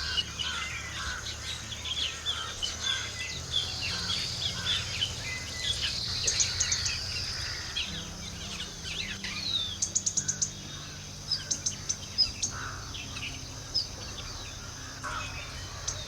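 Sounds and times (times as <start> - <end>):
small birds chirping: 0.0 - 16.0
steady high hiss: 0.0 - 16.0.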